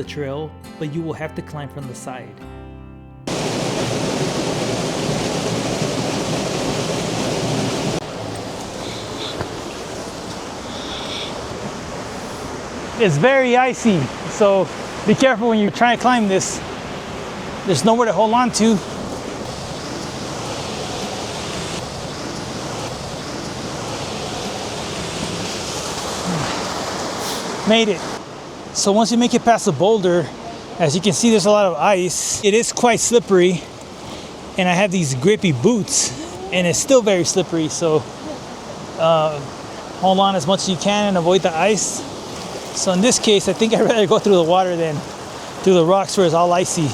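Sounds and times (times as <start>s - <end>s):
waterfall rushing: 3.3s - 46.9s.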